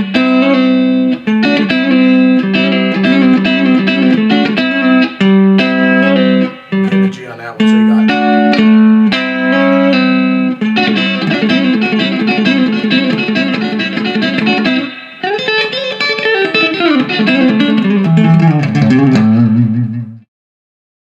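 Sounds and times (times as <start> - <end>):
electric guitar country lick: 0.0 - 20.3.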